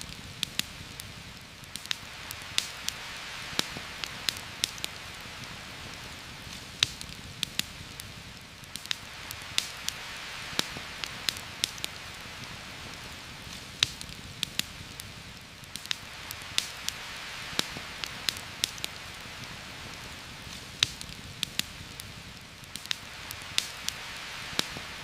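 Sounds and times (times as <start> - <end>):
heavy rain on leaves: 0.0 - 25.0.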